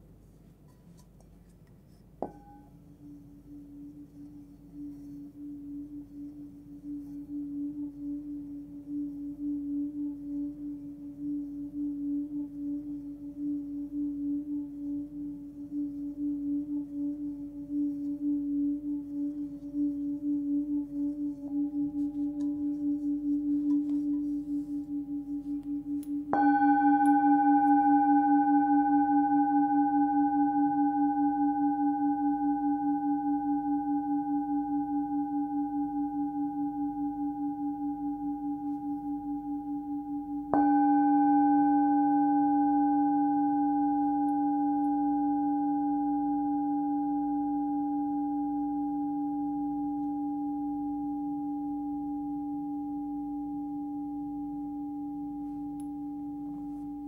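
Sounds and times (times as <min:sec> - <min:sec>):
singing bowl ringing: 0:02.2 - 0:57.0.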